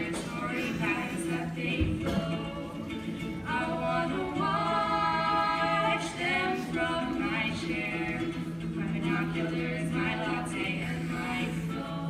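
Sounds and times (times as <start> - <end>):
ukulele accompaniment: 0.0 - 12.0
women singing: 0.0 - 12.0.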